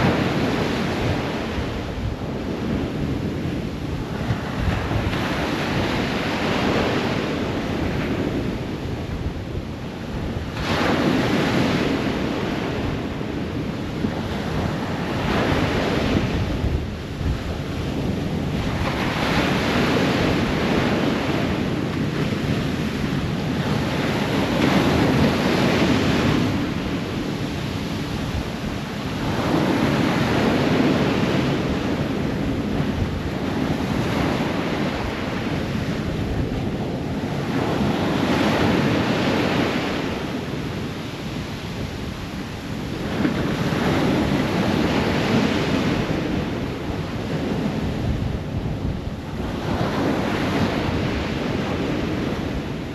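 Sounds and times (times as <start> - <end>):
ocean waves breaking on shore: 0.0 - 52.9.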